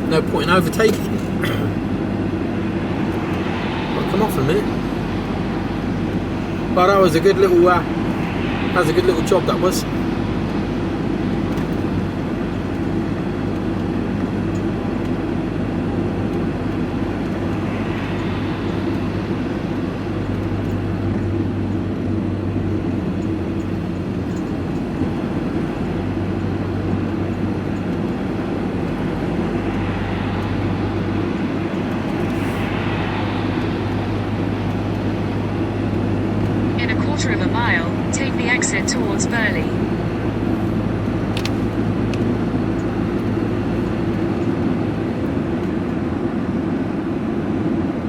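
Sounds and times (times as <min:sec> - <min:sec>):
vehicle engine hum: 0:00.0 - 0:48.0.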